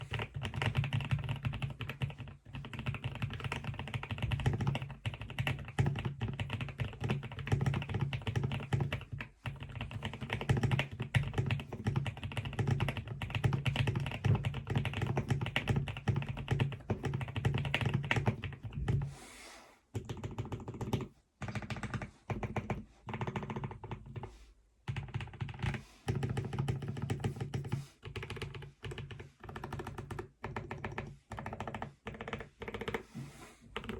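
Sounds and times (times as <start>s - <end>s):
mechanical keyboard typing: 0.0s - 19.1s, 20.0s - 24.3s, 24.9s - 33.1s.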